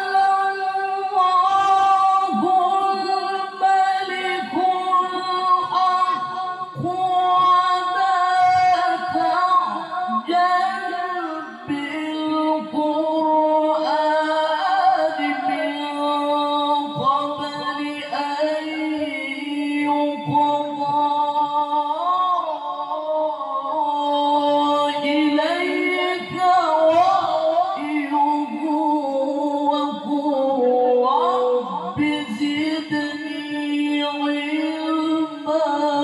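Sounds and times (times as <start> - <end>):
man chanting recitation through microphone: 0.0 - 36.0.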